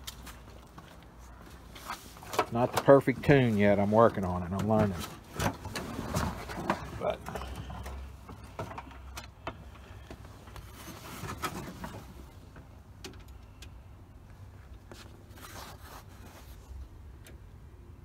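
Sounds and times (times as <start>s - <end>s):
rustling handling noises: 0.0s - 12.7s, 14.3s - 17.0s.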